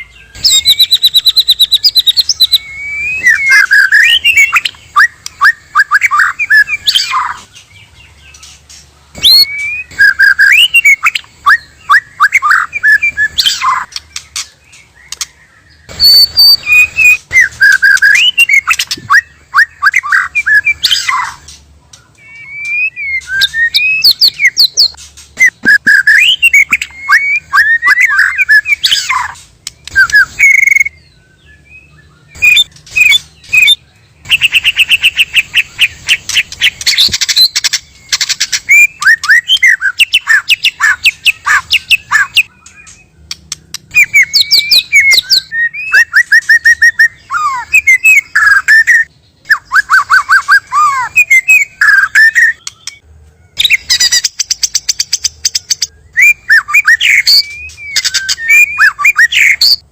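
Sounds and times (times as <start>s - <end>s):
bird rapid trill: 0.0s - 21.6s, 22.2s - 53.0s, 53.6s - 59.8s
bird song whistles and chirps: 0.0s - 59.9s.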